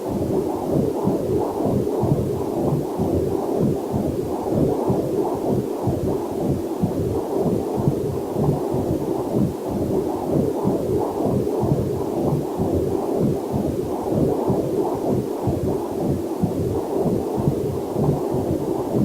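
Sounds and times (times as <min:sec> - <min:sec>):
fetal heartbeat on doppler: 0:00.0 - 0:19.0.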